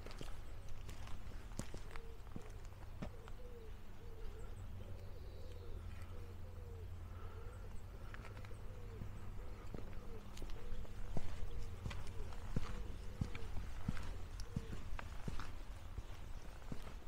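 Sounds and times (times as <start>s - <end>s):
faint bird chirps: 0.2s - 17.0s
pigeon cooing: 1.6s - 17.0s.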